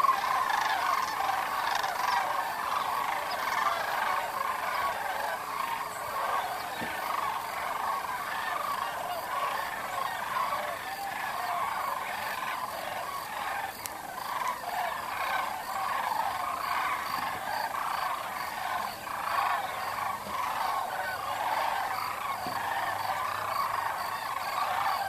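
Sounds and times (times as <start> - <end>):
flock of cranes calling: 0.0 - 25.0.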